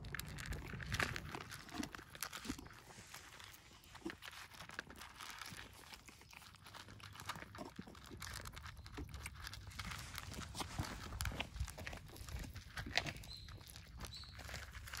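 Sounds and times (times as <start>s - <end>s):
cats crunching food: 0.0s - 15.0s.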